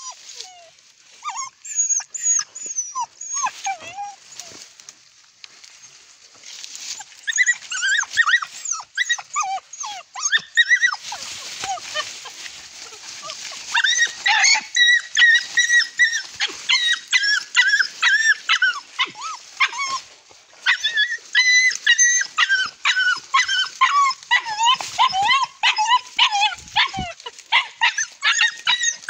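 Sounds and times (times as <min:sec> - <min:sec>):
dogs yelping and whining: 0:00.0 - 0:04.6, 0:06.8 - 0:29.0.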